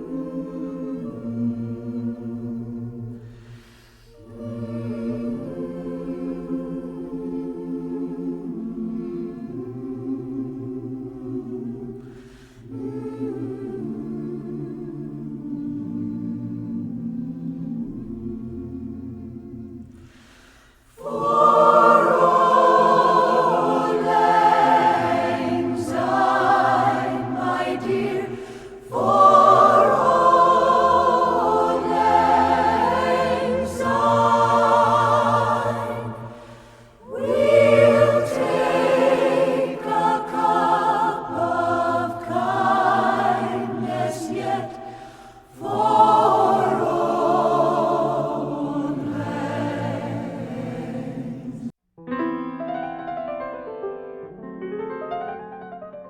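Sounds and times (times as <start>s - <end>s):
choir singing: 0.0s - 51.8s.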